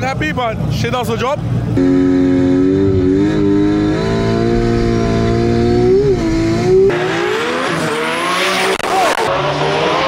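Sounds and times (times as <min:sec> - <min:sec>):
race cars passing: 0:01.4 - 0:10.0
race car engine inside cabin: 0:01.7 - 0:10.0.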